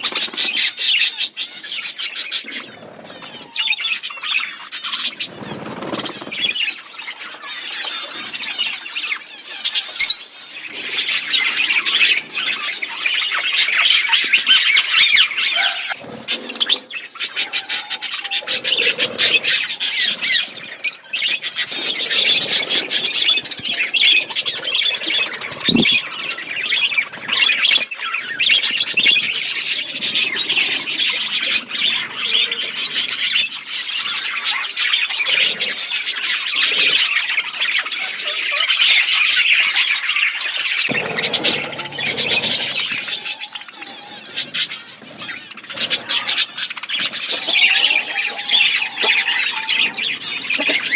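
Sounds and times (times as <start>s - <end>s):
flock of budgerigars chirping: 0.0s - 50.9s.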